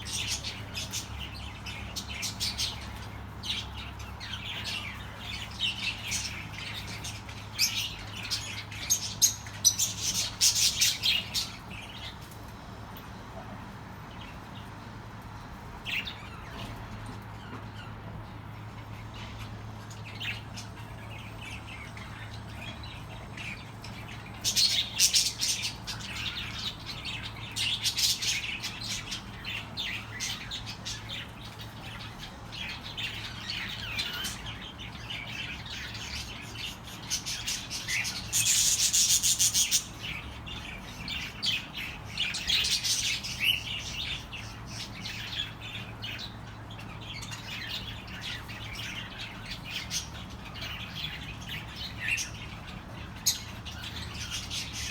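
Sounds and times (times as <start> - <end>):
budgerigars chirping and squawking: 0.0 - 12.3, 13.9 - 54.9.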